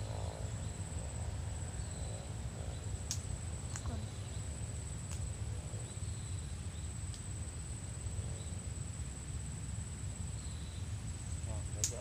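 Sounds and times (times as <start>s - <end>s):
high-pitched insect trill: 0.0s - 12.0s
wind rumble on microphone: 0.0s - 12.0s.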